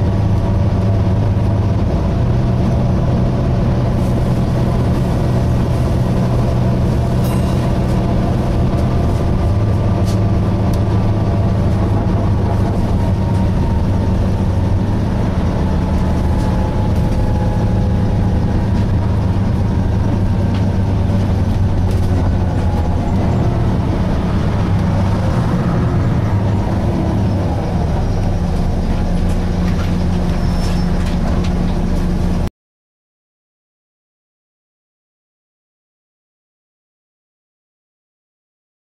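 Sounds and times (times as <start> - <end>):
bus diesel engine drone: 0.0 - 32.5.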